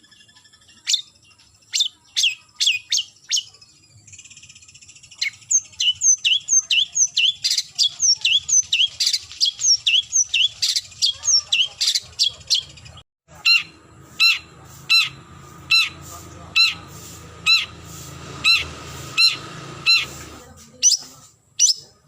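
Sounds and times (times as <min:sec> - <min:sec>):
shrike calling: 0:00.0 - 0:22.0.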